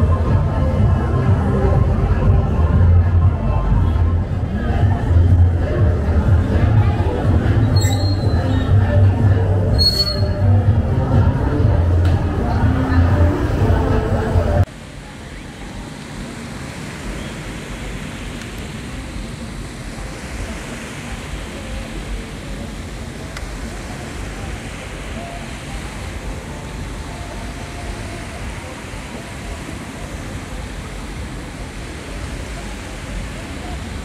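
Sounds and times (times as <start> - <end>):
faint voices: 0.0 - 34.0.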